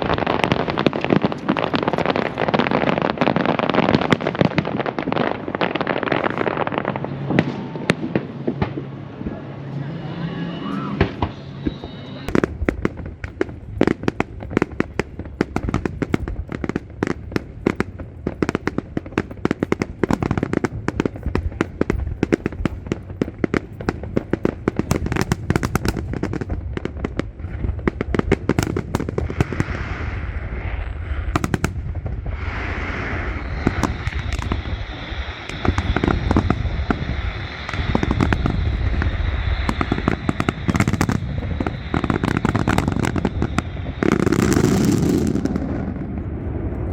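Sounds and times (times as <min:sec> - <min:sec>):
fireworks banging: 0:00.0 - 0:46.9
sizzling crackle of fireworks: 0:00.0 - 0:46.9.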